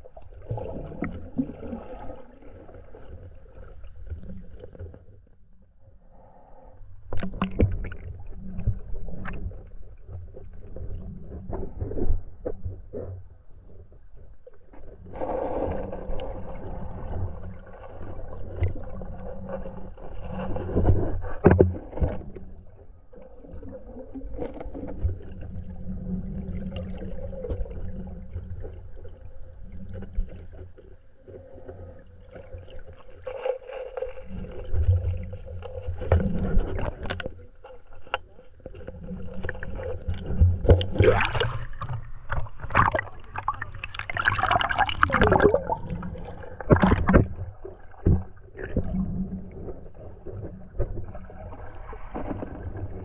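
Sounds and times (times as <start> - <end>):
water splashing and bubbling: 0.0 - 5.0, 15.1 - 53.0
underwater knocks and bumps: 0.0 - 5.2, 7.1 - 53.0
muffled underwater flowing water: 0.0 - 53.0.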